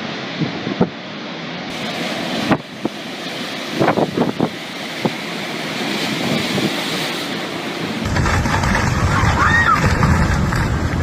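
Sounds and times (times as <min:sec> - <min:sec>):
storm wind rushing: 0:01.7 - 0:11.0.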